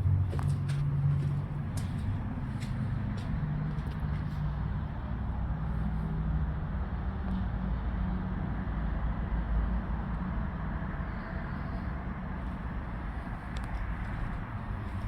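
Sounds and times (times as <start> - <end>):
engine running with low rumble: 0.0 - 15.0.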